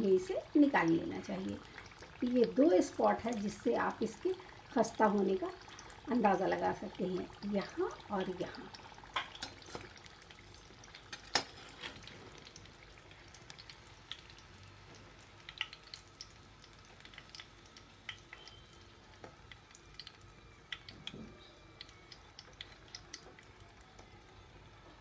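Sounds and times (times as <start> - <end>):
oil sizzling with pops: 0.0 - 25.0.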